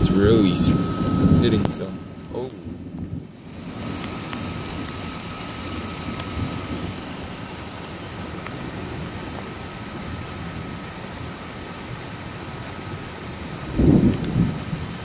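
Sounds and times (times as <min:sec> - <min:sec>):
heavy rain pouring: 0:00.0 - 0:15.0
low rumble of thunder: 0:00.0 - 0:15.0
raindrops ticking close by: 0:00.0 - 0:15.0.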